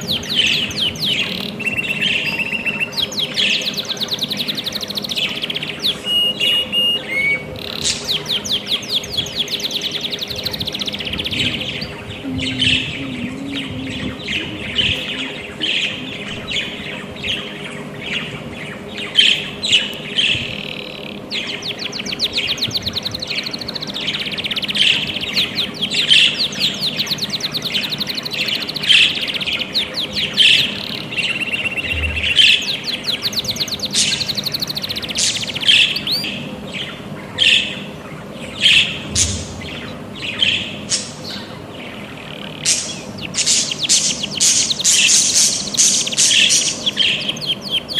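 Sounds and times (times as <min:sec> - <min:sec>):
budgerigars chirping: 0:00.0 - 0:47.9
faint steady hum: 0:00.0 - 0:47.9.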